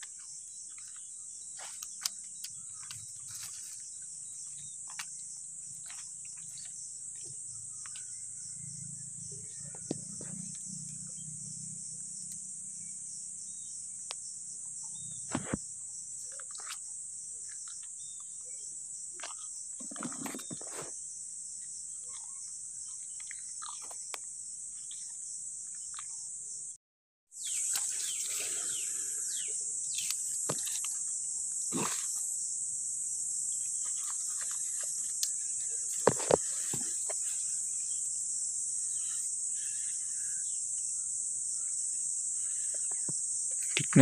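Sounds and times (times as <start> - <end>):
high-pitched insect chorus: 0.0 - 26.7, 27.4 - 44.0.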